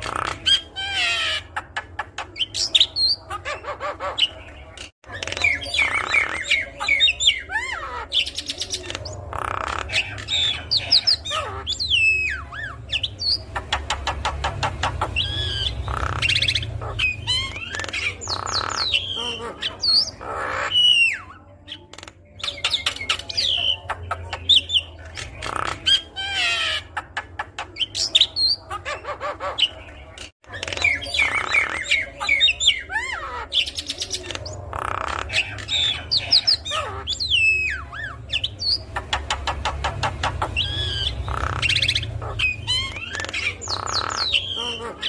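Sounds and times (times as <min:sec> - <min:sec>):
bird singing varied song: 0:00.0 - 0:45.0.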